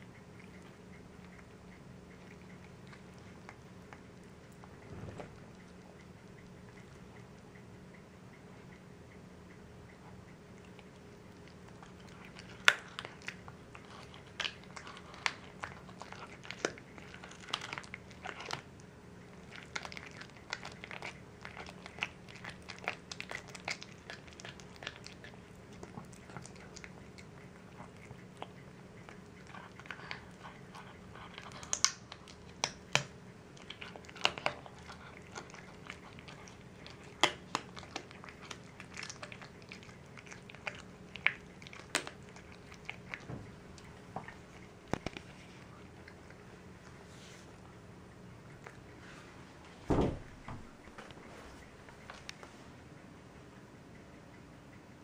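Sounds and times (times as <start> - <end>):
cat chewing bone: 0.0 - 49.7, 50.6 - 53.0.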